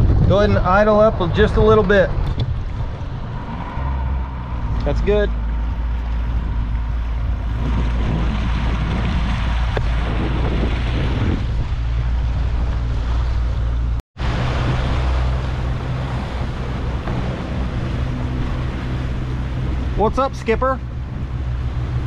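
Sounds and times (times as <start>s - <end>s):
outboard motor running: 0.0s - 22.0s
water noise: 0.0s - 22.0s
wind: 0.0s - 22.0s.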